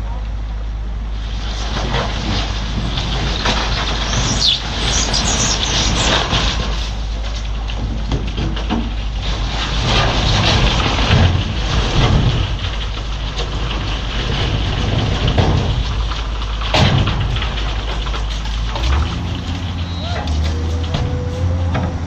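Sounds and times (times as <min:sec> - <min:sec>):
heavy machinery rumbling: 0:00.0 - 0:22.0.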